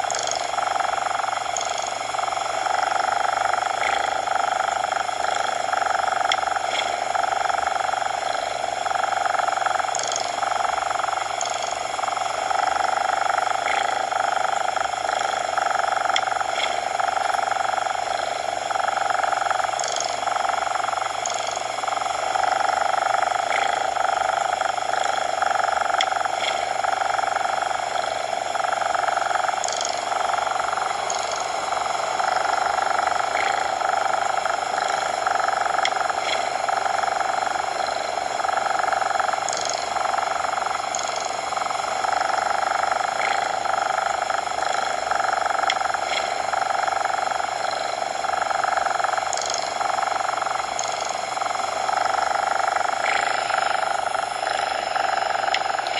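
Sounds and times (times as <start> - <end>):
steady midrange hiss: 0.0 - 55.9.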